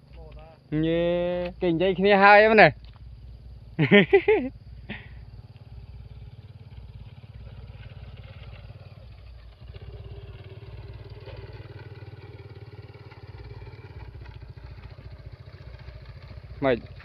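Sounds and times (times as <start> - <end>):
small engine running: 0.5 - 17.0.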